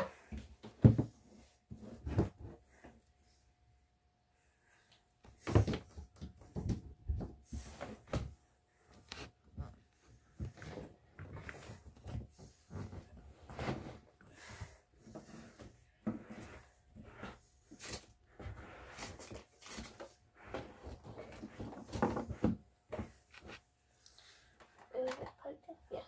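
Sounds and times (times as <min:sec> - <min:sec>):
household items being handled: 0:00.0 - 0:03.5, 0:04.6 - 0:26.0.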